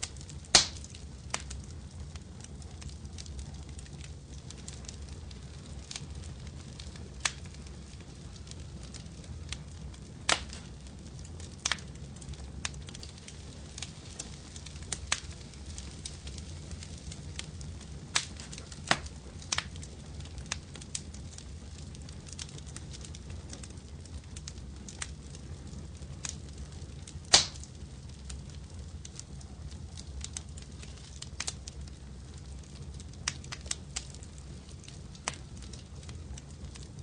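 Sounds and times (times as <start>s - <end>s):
fireplace fire crackling: 0.0s - 37.0s.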